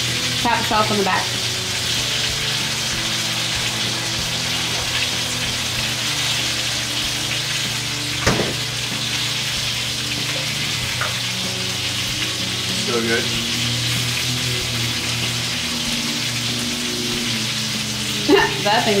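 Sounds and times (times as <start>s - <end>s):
chicken sizzling in a frying pan: 0.0s - 19.0s.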